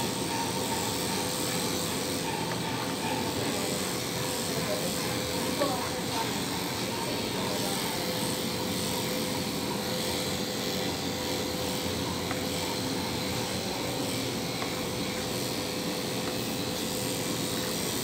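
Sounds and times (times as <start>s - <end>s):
electric pet clippers humming: 0.0s - 18.0s.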